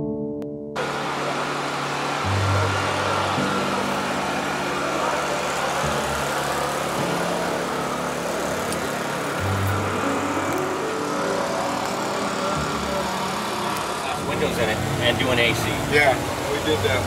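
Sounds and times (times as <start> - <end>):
music: 0.0 - 0.8, 2.2 - 17.0
car engine running: 0.8 - 17.0.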